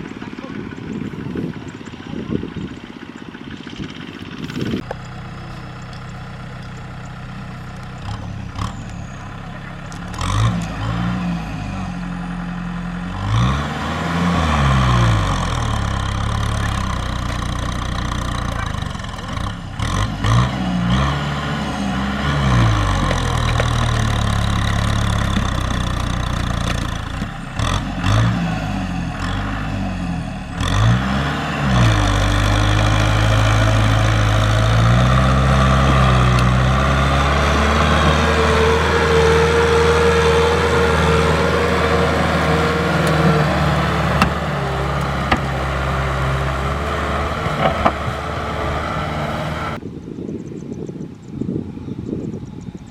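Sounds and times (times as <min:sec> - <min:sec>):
diesel engine revving: 0:00.0 - 0:49.8.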